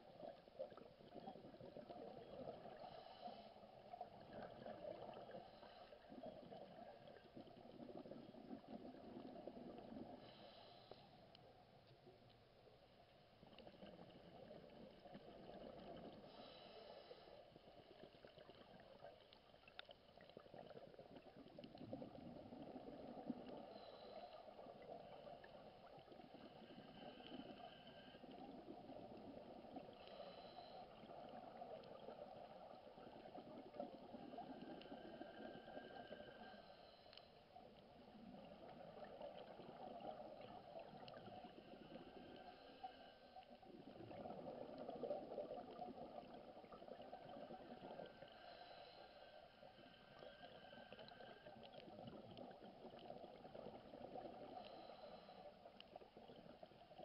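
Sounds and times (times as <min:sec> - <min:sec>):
underwater bubbling and gurgling: 0:00.0 - 0:57.0.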